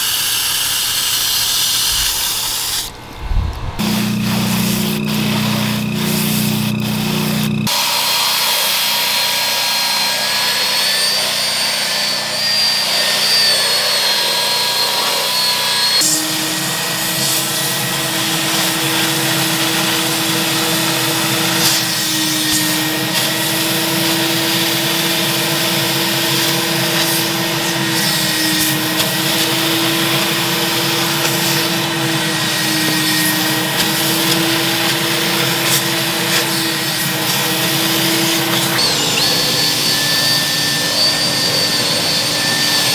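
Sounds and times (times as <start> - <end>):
carpet extractor motor humming: 2.1 - 42.9
cordless drill whining: 3.8 - 42.9.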